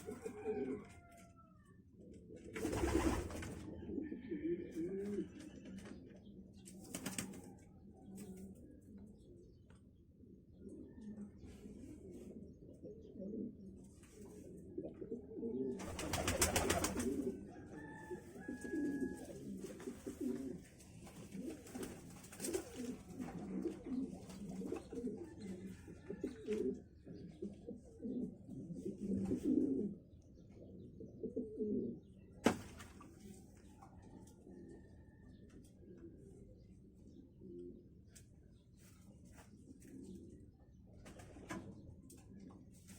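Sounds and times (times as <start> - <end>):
pigeons cooing: 0.0 - 32.4, 33.0 - 38.2, 39.4 - 42.8.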